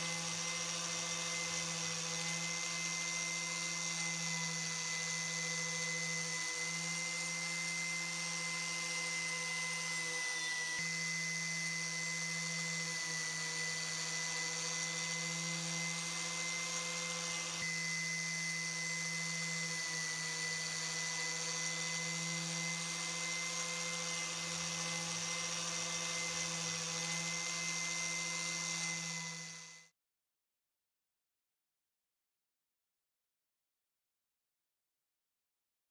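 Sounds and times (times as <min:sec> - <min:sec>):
electric power tool whining: 0:00.0 - 0:29.9.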